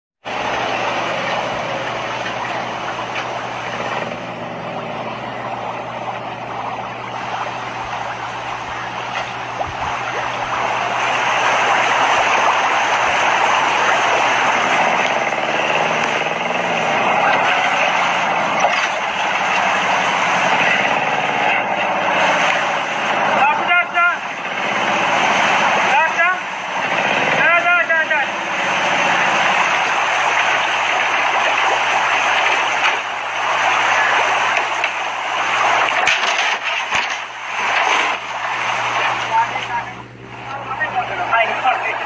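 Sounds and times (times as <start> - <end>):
fish splashing in a pond: 0.3 - 23.4, 28.5 - 40.4.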